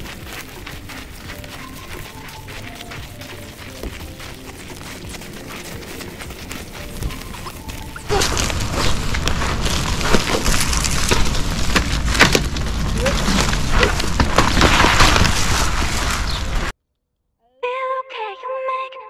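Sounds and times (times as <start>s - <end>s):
dense crackling and rustling: 0.0s - 16.8s.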